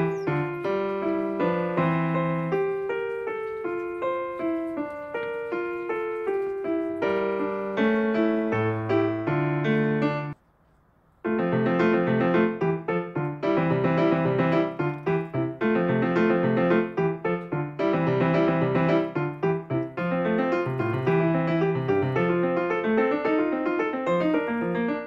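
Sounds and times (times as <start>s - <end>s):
piano music: 0.0s - 10.4s, 11.3s - 25.0s.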